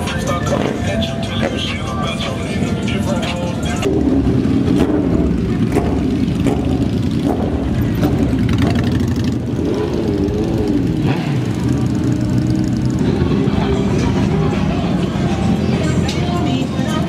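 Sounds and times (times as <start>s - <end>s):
motorcycles rolling past revving: 0.0s - 17.0s.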